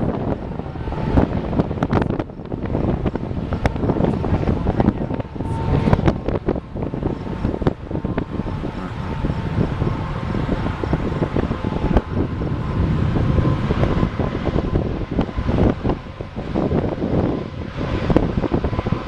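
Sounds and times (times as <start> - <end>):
storm wind buffeting microphone: 0.0 - 19.0.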